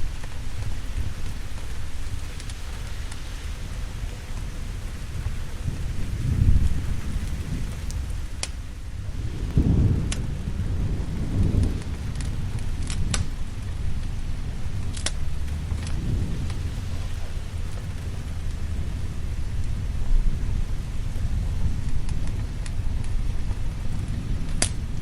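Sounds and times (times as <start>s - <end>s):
steady rain: 0.0s - 25.0s
thunder rumbling: 0.0s - 25.0s
wood fire crackling: 0.0s - 25.0s.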